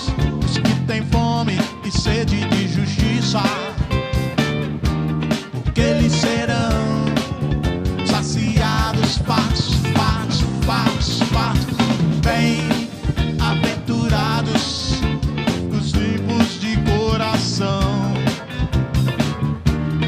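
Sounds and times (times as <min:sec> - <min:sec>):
drum beat: 0:00.0 - 0:20.0
live band music: 0:00.0 - 0:20.0.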